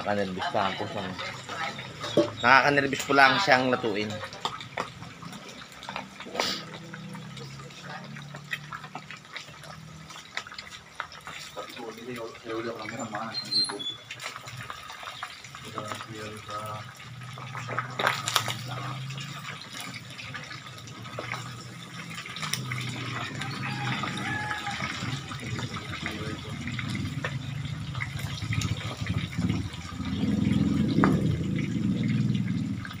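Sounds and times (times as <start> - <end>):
meat sizzling in hot oil: 0.0 - 33.0
oil popping: 0.0 - 33.0.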